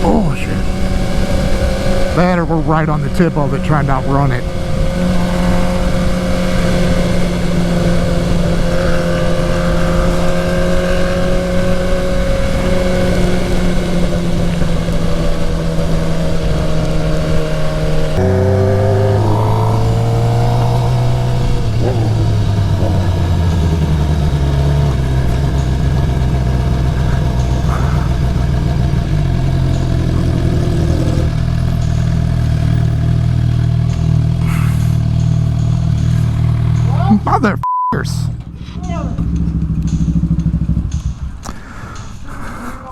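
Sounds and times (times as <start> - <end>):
motorcycle engine cruising: 0.0 - 37.6, 38.3 - 42.5.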